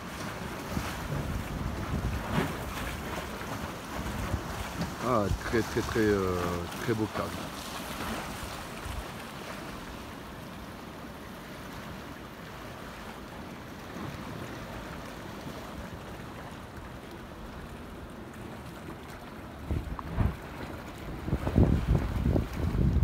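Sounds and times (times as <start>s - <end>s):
sea waves washing gently: 0.0s - 23.0s
wind: 0.0s - 23.0s.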